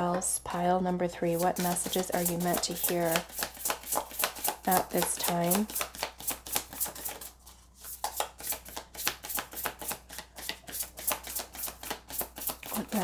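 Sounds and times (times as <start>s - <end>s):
cards being shuffled: 1.4s - 13.0s.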